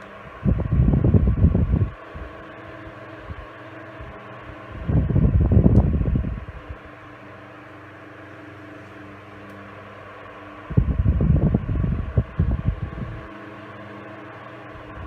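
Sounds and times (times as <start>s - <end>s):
fan breeze buffeting microphone: 0.0s - 15.0s
fan motor hum: 0.0s - 15.0s.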